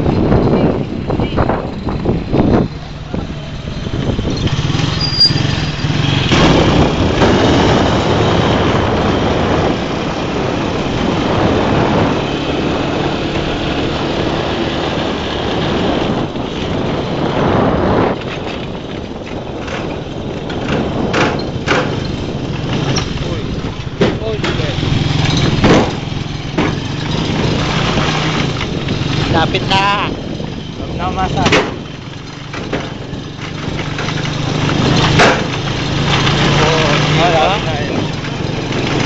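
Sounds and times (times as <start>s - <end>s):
motorcycle engine running: 0.0s - 39.0s
road noise: 0.0s - 39.0s.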